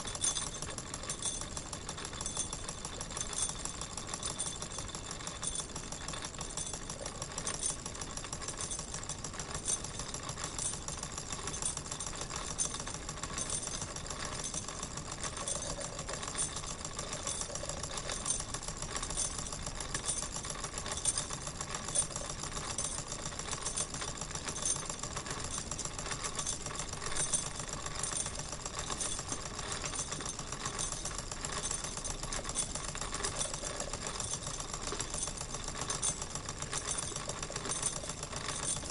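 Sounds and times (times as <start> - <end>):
toy steam engine clattering: 0.0 - 38.9.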